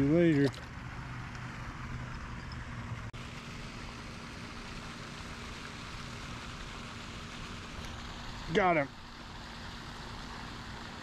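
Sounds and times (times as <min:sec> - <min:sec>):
faint steady hum: 0:00.0 - 0:11.0
fountain splashing hiss: 0:00.0 - 0:11.0.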